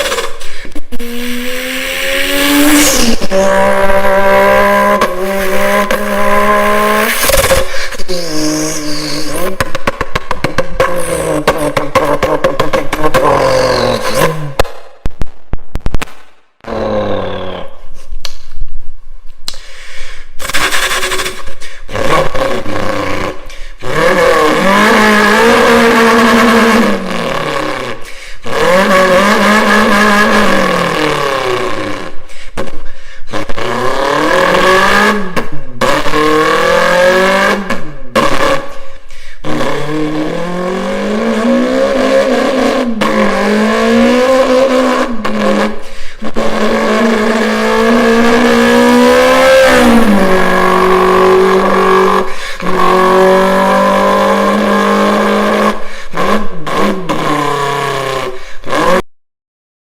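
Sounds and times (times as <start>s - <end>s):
person imitating engine revs: 0.0s - 9.7s, 10.6s - 14.6s, 16.6s - 17.9s, 20.4s - 38.8s, 39.4s - 59.0s.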